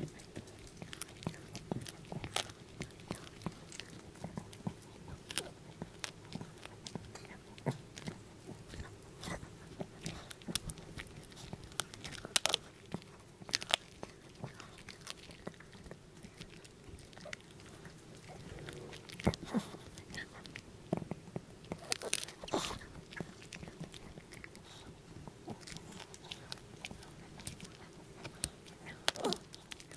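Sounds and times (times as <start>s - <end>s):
dog chewing bone: 0.0s - 29.9s.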